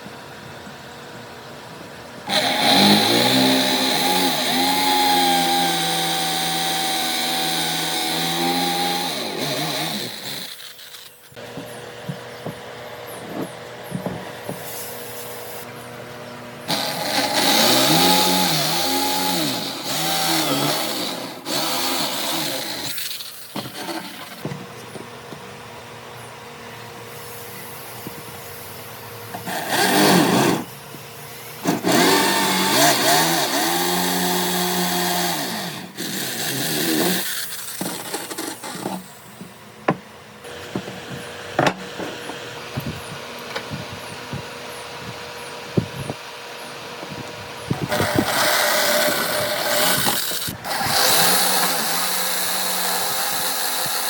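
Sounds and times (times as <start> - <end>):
power tool cutting wood: 2.3 - 12.6, 16.6 - 24.5, 27.1 - 39.5, 40.4 - 54.0.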